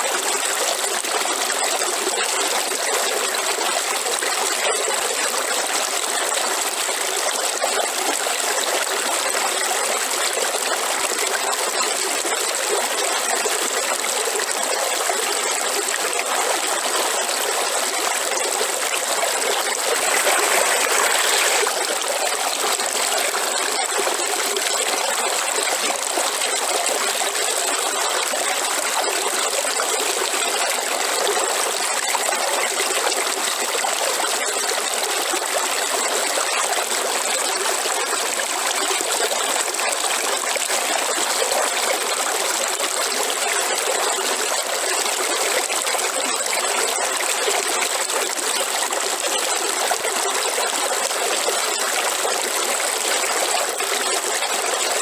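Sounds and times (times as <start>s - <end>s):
river water flowing: 10.7s - 55.0s.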